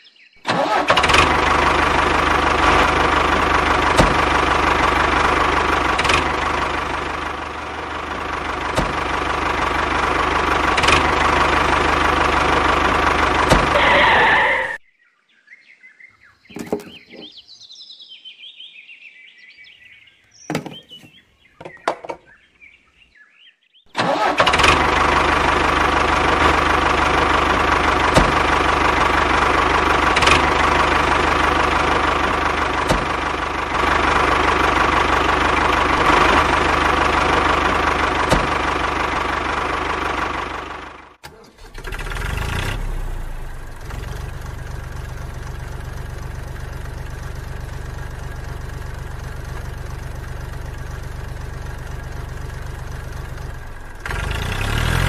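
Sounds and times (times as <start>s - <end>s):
low engine idling: 0.4s - 14.8s, 24.0s - 55.0s
tractor engine running: 0.4s - 14.8s, 16.5s - 17.5s, 20.2s - 22.4s, 23.9s - 55.0s.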